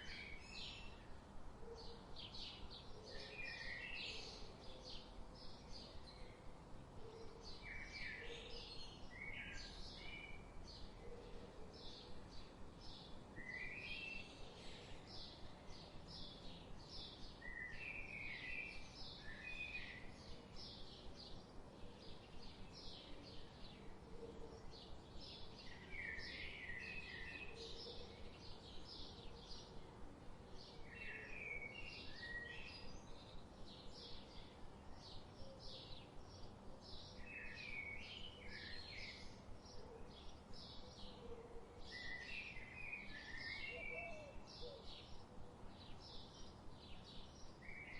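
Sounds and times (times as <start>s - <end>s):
faint steady hiss: 0.0s - 47.9s.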